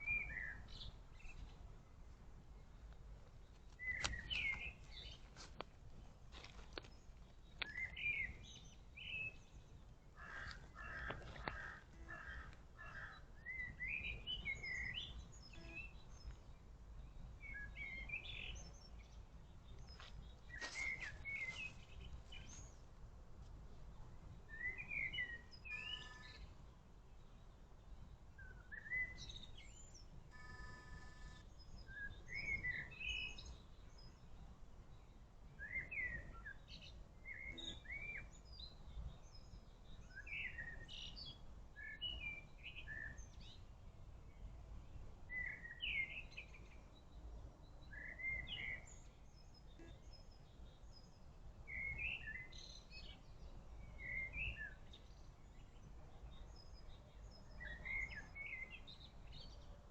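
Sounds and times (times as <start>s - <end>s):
small birds chirping: 0.0s - 1.6s, 2.5s - 22.8s, 31.0s - 59.8s.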